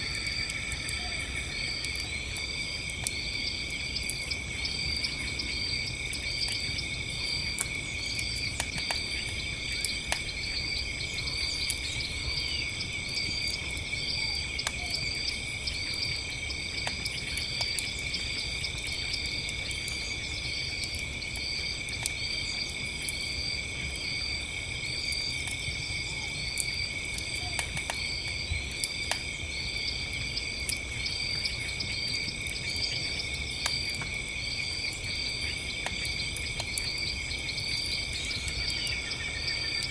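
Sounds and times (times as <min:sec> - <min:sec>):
crickets chirping: 0:00.0 - 0:39.9
campfire crackling and popping: 0:01.6 - 0:39.9.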